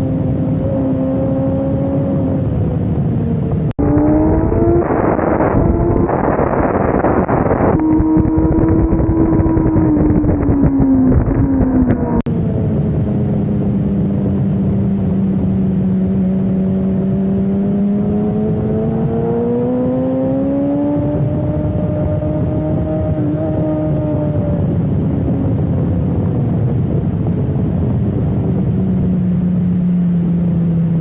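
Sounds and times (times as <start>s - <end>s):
motorcycle engine at speed: 0.0s - 31.0s
wind rush: 0.0s - 31.0s.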